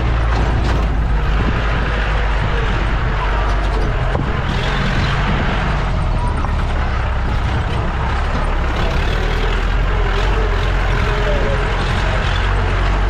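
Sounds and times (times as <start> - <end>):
off-road vehicle engine and road rumble: 0.0 - 13.0.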